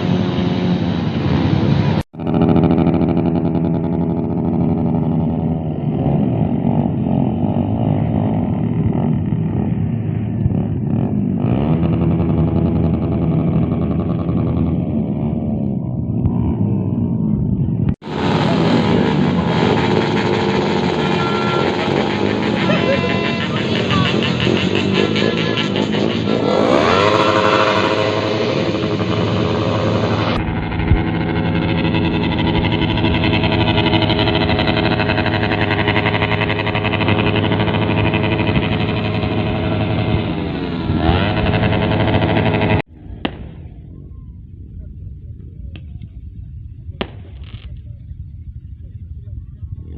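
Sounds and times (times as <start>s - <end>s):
motorcycles revving: 0.0s - 44.3s.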